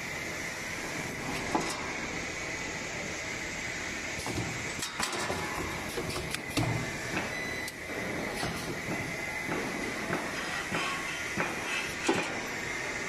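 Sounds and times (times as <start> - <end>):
welding machine running: 0.0 - 13.0.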